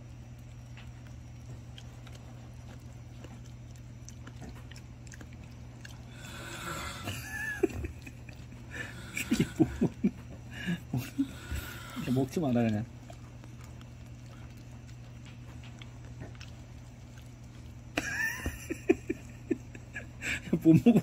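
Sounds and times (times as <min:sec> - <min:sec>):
dog chewing wet seaweed: 0:00.0 - 0:19.4.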